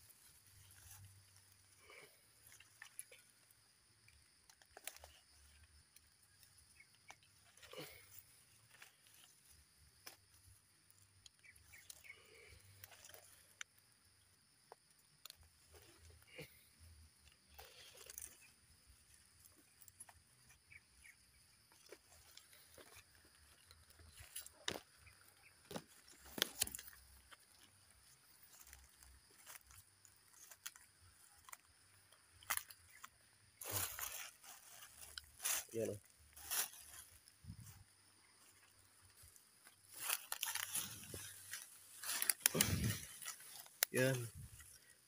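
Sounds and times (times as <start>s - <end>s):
dry leaves and grass rustling: 0.0s - 45.0s.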